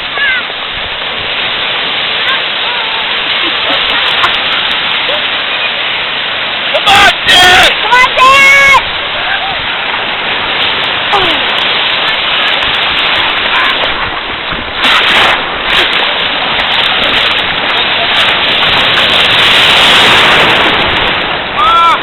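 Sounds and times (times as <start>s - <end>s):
ocean surf splashing: 0.0s - 22.0s.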